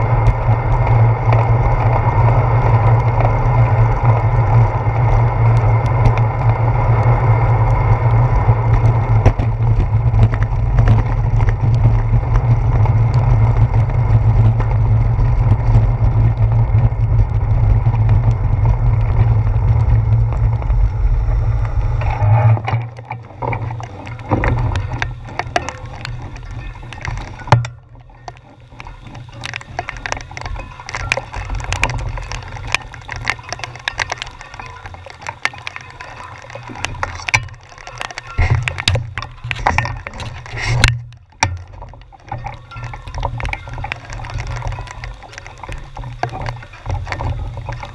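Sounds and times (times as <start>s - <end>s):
bicycle road rumble: 0.0s - 47.9s
raindrops ticking on camera: 0.0s - 47.9s
wind noise: 0.0s - 47.9s.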